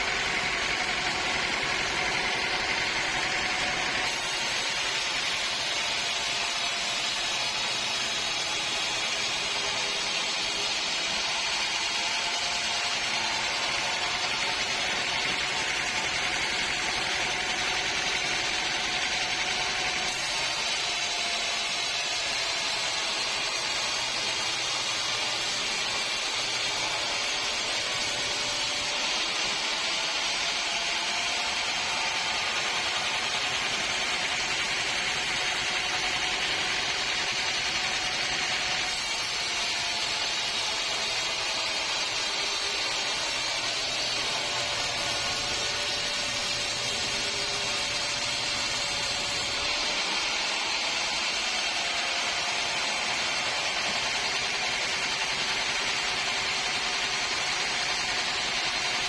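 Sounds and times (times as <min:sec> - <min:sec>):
machinery running: 0:00.0 - 0:59.0
saw cutting wood: 0:00.0 - 0:59.0.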